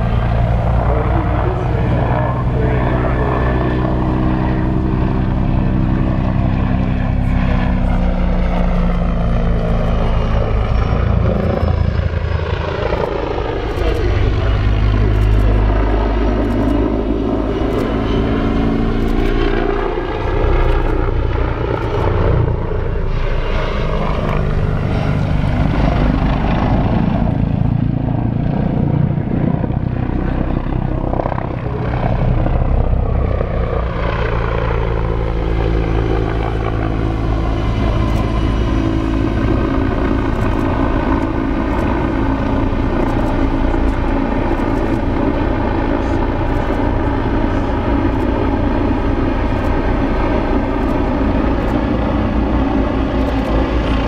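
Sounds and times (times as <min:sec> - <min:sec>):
helicopter flying overhead: 0:00.0 - 0:54.0.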